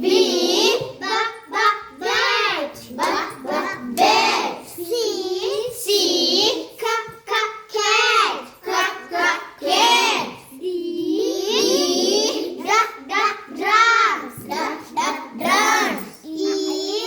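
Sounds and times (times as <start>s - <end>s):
child chanting sing-song: 0.0s - 17.0s.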